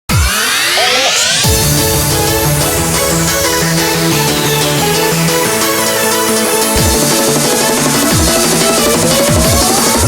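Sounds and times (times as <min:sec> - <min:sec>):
fast electronic dance music: 0:00.1 - 0:10.0.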